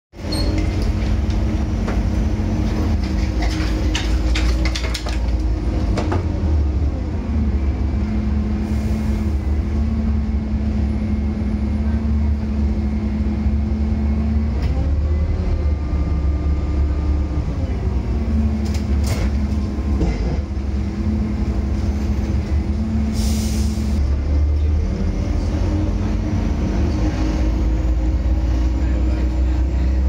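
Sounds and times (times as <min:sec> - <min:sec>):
bus diesel engine droning: 0:00.2 - 0:04.6, 0:05.4 - 0:30.0.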